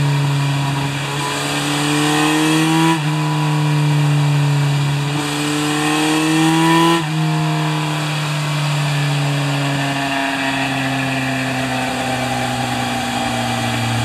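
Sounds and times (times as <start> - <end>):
motorcycle engine revs falling: 0.0 - 14.0.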